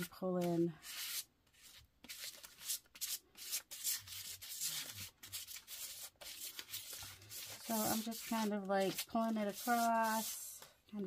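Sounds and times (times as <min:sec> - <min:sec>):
palette knife scraping paint: 0:00.0 - 0:10.6.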